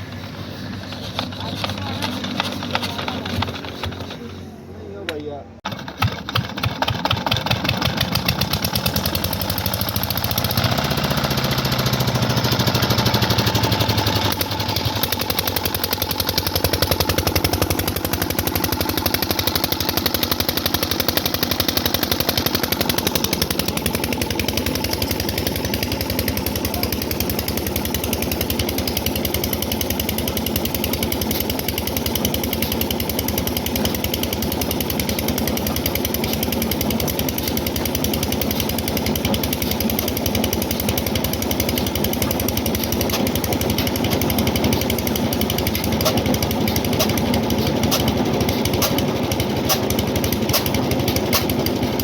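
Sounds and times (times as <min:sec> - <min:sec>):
diesel engine knocking: 0:05.1 - 0:52.0.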